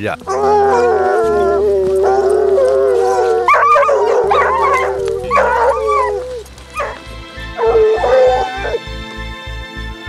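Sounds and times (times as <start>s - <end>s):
hounds howling: 0.2s - 8.9s.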